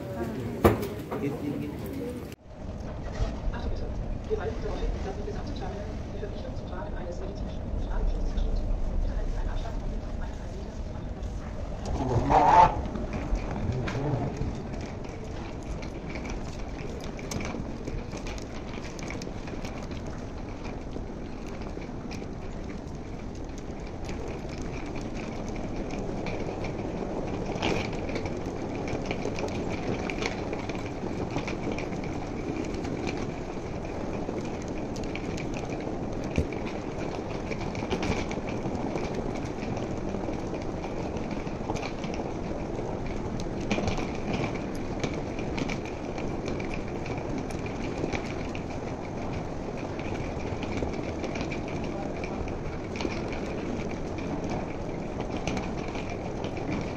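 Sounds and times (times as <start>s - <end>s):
airport terminal hall hum: 0.0s - 56.9s.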